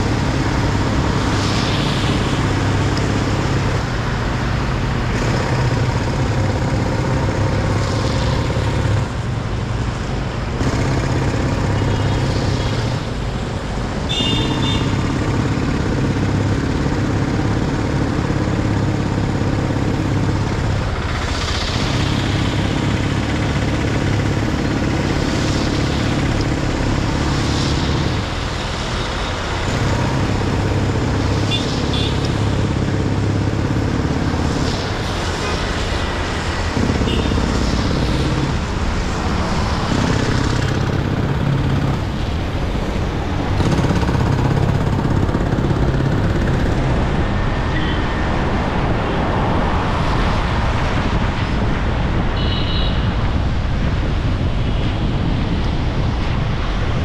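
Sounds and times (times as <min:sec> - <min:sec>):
car engine hum and road noise: 0:00.0 - 0:52.4.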